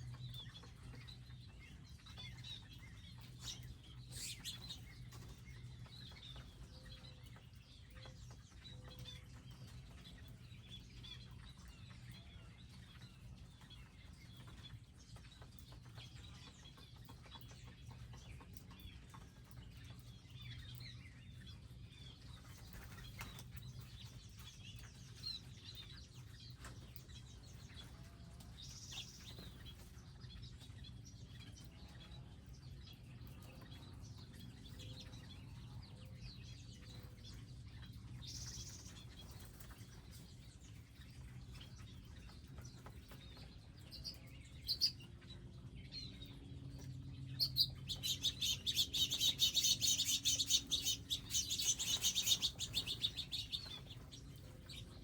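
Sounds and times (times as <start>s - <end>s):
low steady hum: 0.0s - 55.0s
small birds chirping: 0.0s - 55.0s.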